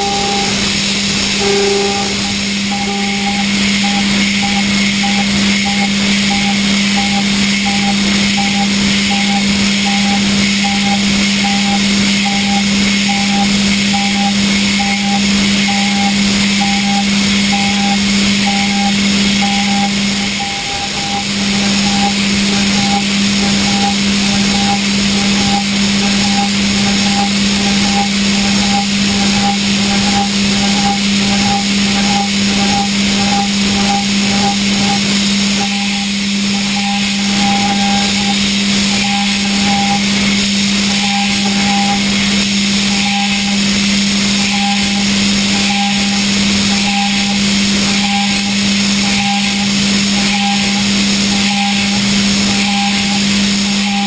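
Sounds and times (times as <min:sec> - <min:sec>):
milling machine spindle hum: 0:00.0 - 0:54.0
pulsing high cutter tone: 0:00.0 - 0:54.0.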